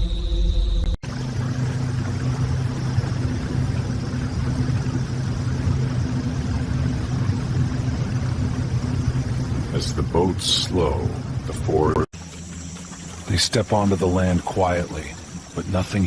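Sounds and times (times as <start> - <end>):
motorboat engines running: 0.6 - 16.0
rushing water: 1.0 - 16.0.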